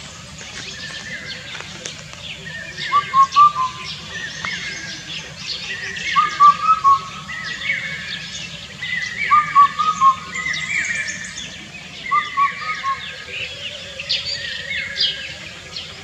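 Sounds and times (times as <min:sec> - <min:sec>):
birds chirping: 0:00.0 - 0:16.0
cuckoo whistled song: 0:02.4 - 0:16.0.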